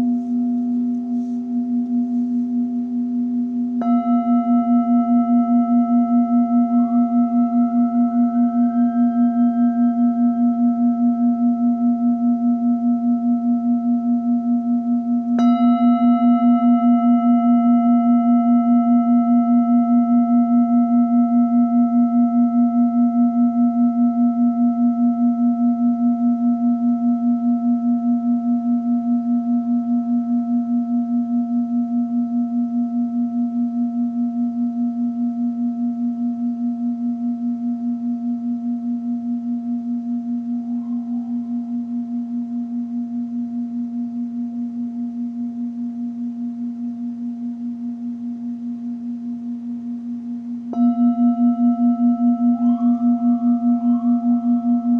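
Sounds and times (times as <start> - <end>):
singing bowl ringing: 0.0 - 54.9.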